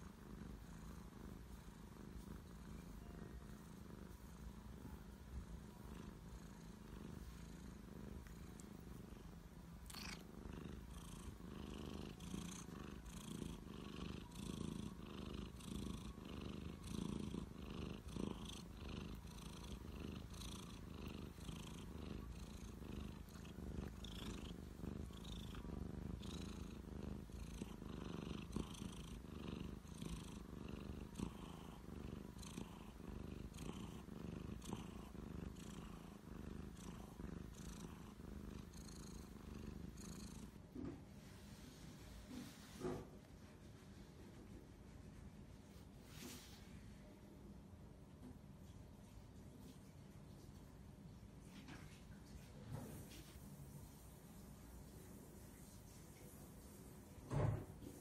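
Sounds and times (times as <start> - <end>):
cat purring: 0.0 - 46.6.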